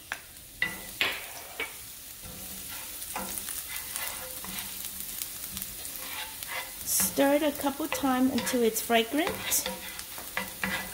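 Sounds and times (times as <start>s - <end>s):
garlic sizzling in hot oil: 0.0s - 10.9s
wooden spatula scraping a pan: 0.6s - 10.9s.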